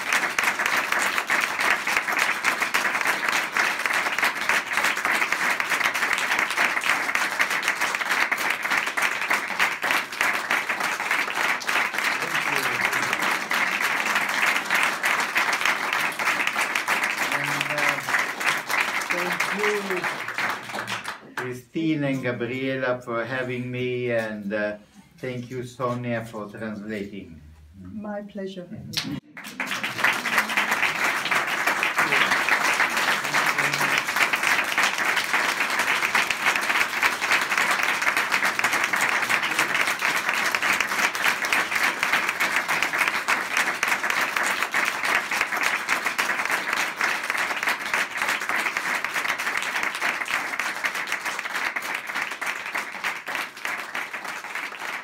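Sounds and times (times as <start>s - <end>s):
audience applauding: 0.0s - 22.2s, 29.0s - 55.0s.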